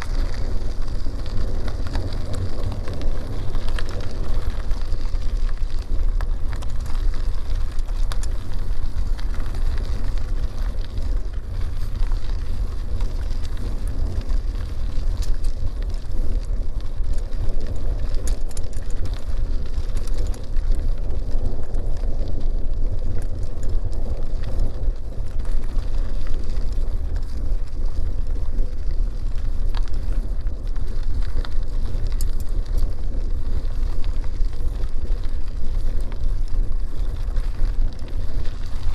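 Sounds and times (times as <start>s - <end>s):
bicycle tyres rolling on road: 0.0s - 38.9s
gravel clicks: 0.0s - 38.9s
wind rumbling on microphone: 0.0s - 38.9s.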